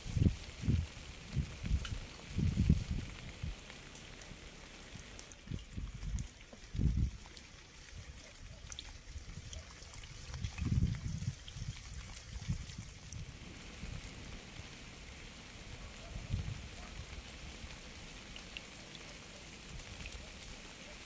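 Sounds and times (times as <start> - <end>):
rain falling and dripping: 0.0 - 21.0.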